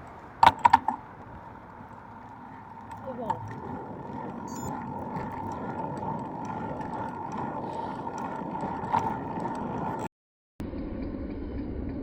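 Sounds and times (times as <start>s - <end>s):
faint steady whine: 0.0s - 10.0s
wind and road noise: 0.0s - 10.1s.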